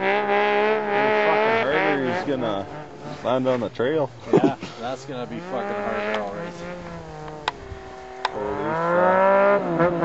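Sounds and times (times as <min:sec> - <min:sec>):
snowmobile engine at high revs: 0:00.0 - 0:03.7, 0:05.1 - 0:10.0.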